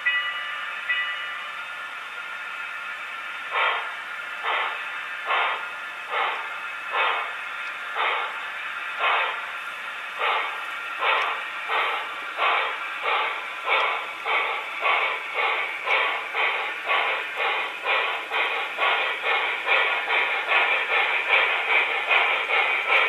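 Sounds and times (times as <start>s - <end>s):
model steam locomotive chuffs: 0.0s - 23.0s
steady steam hiss: 0.0s - 23.0s.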